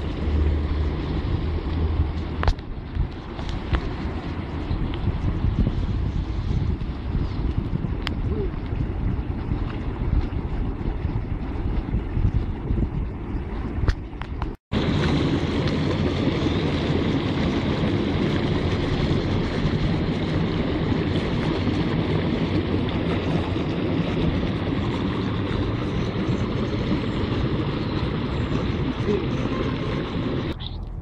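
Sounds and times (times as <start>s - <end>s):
fountain water bubbling and splashing: 0.0s - 30.6s.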